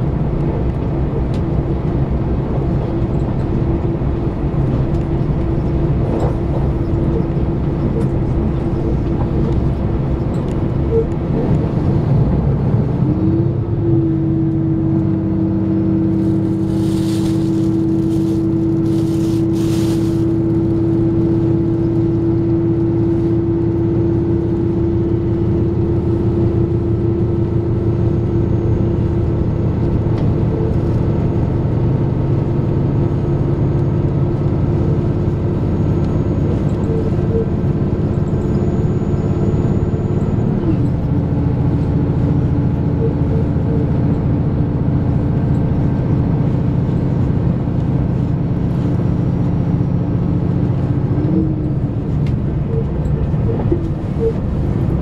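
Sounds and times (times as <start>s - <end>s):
diesel engine hum: 0.0s - 55.0s
wheels rumbling on rail: 0.0s - 55.0s.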